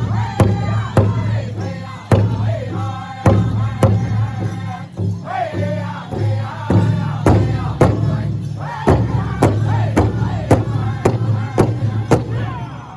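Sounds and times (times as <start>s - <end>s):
group singing in chorus: 0.0s - 12.9s
large hand drum beat: 0.0s - 12.9s.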